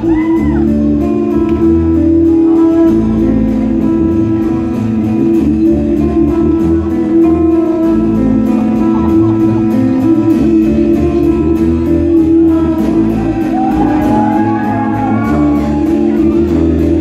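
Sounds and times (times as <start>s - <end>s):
guitar: 0.0s - 17.0s
sousaphone bass line: 0.0s - 17.0s.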